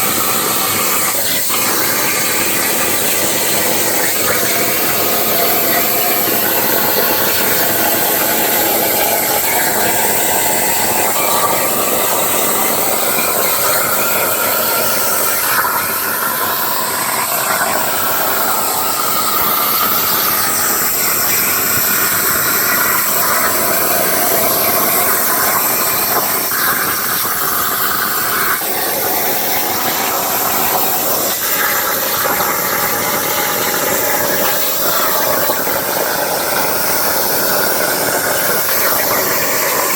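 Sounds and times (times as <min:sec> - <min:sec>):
plasma torch cutting steel: 0:00.0 - 0:39.9.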